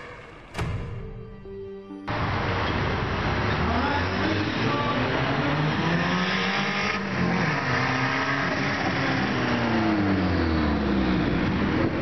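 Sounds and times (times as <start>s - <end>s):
car engine revving: 2.1s - 12.0s
road and tire noise: 2.1s - 12.0s.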